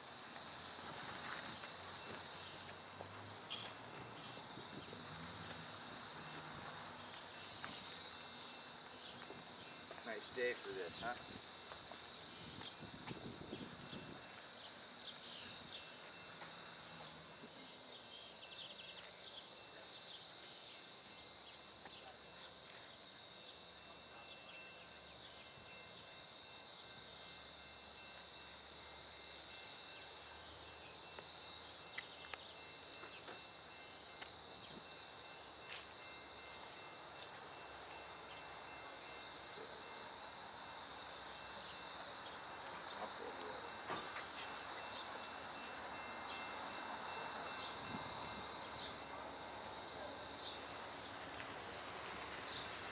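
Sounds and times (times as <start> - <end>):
insects trilling: 0.1 - 52.9.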